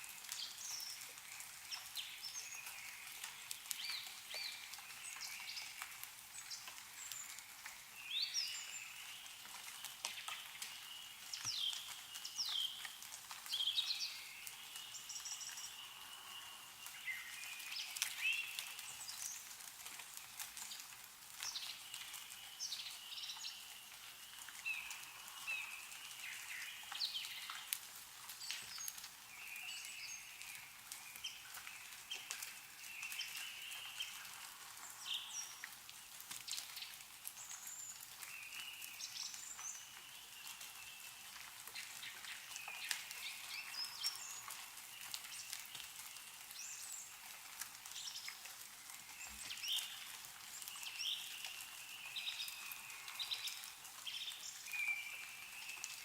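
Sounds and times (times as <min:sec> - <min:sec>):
meltwater dripping: 0:00.0 - 0:56.0
songbirds chirping and twittering: 0:00.0 - 0:56.0.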